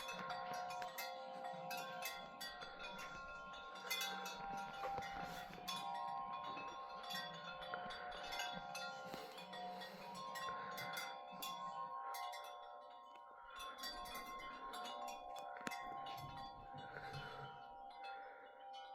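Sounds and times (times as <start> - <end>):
wind chimes ringing: 0.0 - 18.9.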